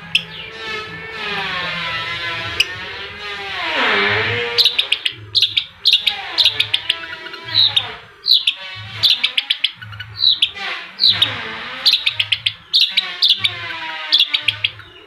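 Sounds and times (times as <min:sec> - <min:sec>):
shrike singing: 0:00.0 - 0:15.0.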